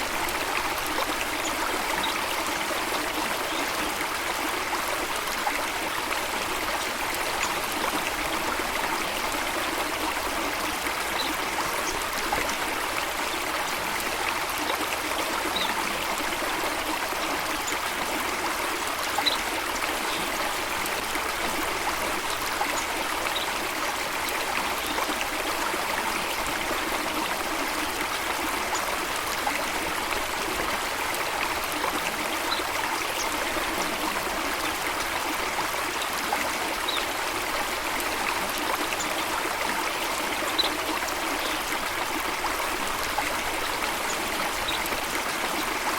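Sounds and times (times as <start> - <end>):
running water flowing: 0.0 - 45.9.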